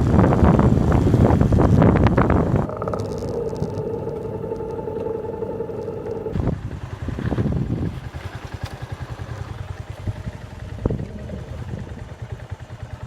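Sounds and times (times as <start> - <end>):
motorcycle engine idling: 2.4 - 13.0.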